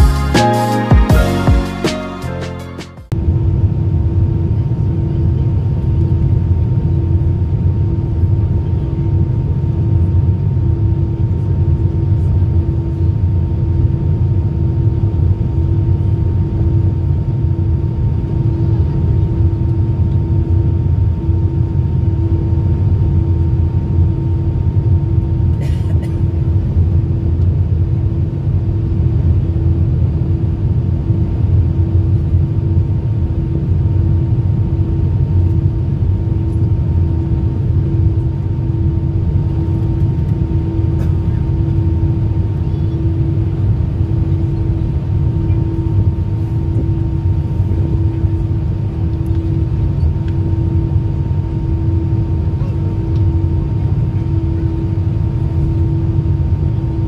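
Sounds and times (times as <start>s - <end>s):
airliner cabin engine rumble: 3.1s - 57.0s.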